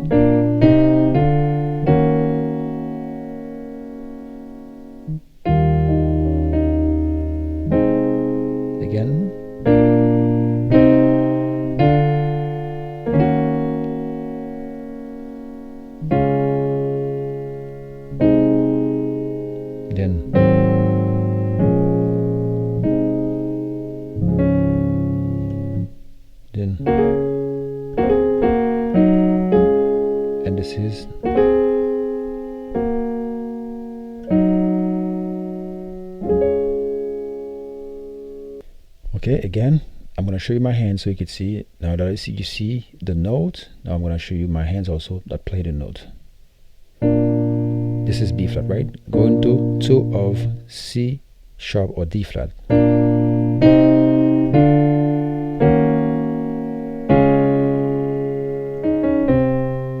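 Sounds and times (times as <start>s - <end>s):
piano chords: 0.0s - 38.9s, 45.8s - 60.0s.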